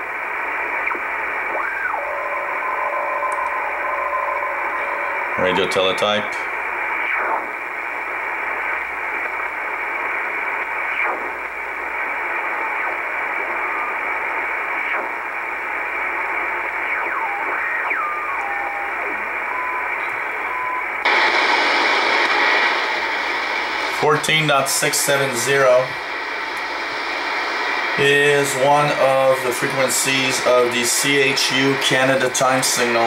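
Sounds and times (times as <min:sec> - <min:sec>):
shortwave radio static: 0:00.0 - 0:33.0.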